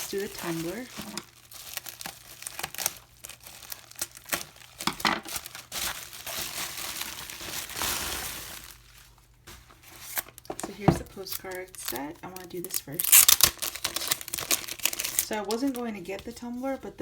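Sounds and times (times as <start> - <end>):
packaging crinkling: 0.0 - 16.3.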